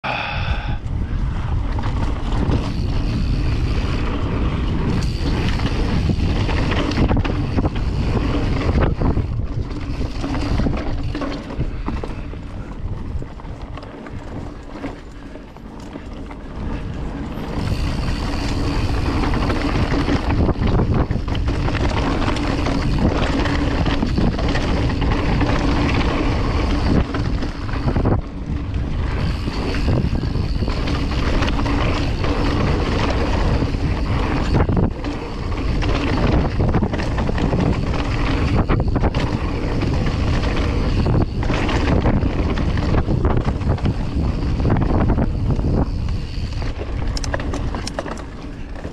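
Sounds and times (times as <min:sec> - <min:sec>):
wind on microphone: 0:00.0 - 0:48.9
bike tyres rumbling on dirt: 0:00.1 - 0:48.9
bike knocks and rattles: 0:01.6 - 0:48.9.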